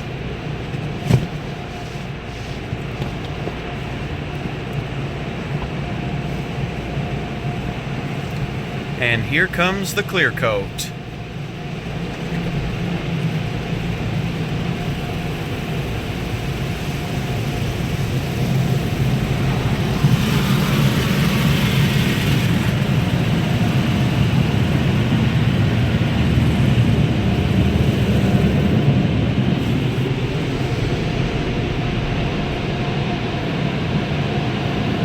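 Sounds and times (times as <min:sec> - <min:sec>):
car wash machinery rushing: 0:00.0 - 0:35.0.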